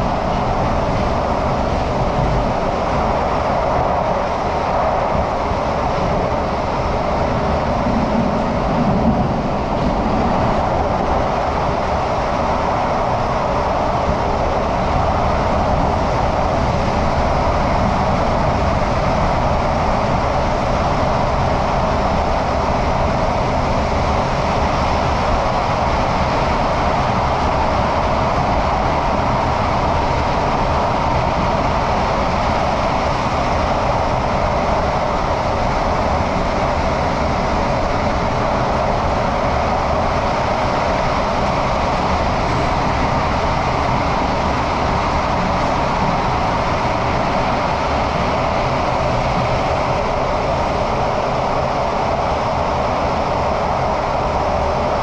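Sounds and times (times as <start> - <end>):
train running through tunnel: 0.0 - 55.0.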